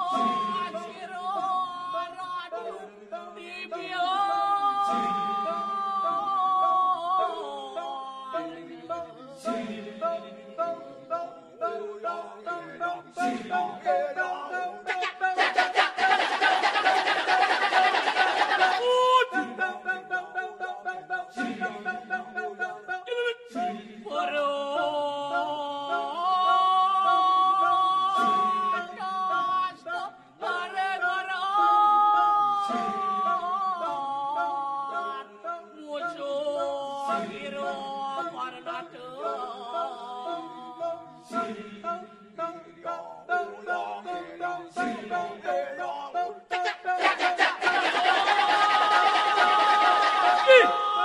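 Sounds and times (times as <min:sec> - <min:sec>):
chorus of voices chanting: 0:00.0 - 0:51.0
staccato repeated chanting: 0:00.0 - 0:51.0.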